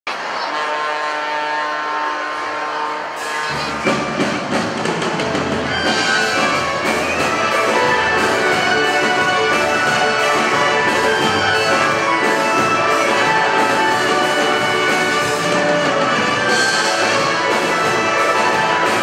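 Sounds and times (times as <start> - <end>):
orchestra playing: 0.5 - 19.0.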